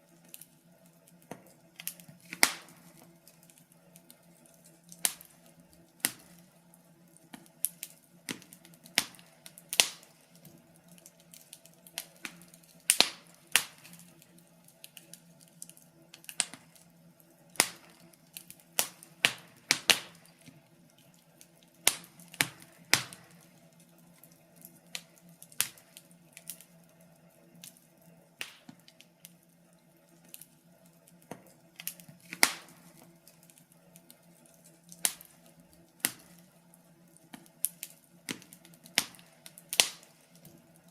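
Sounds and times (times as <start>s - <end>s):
faint steady low hum: 0.0s - 40.9s
wood fire crackling: 0.0s - 40.9s.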